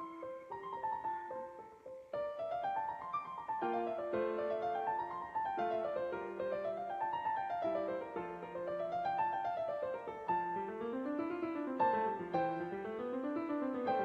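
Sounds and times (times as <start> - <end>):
piano music with quick runs: 0.0 - 14.0.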